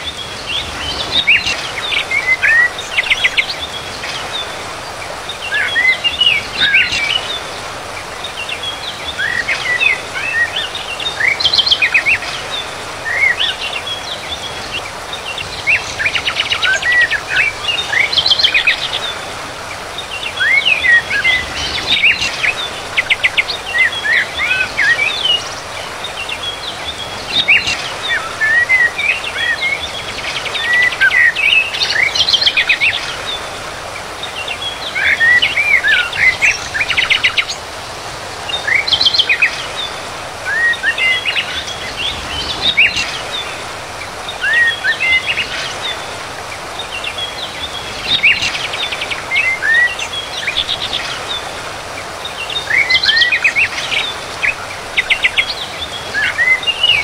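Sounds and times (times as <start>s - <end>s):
songbirds chirping and trilling: 0.0s - 57.0s
steady background hiss: 0.0s - 57.0s.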